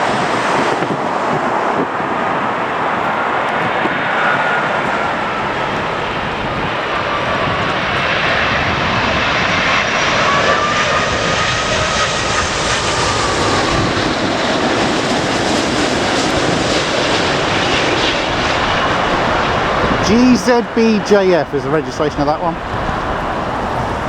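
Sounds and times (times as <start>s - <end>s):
jet airliner passing: 0.0s - 24.0s.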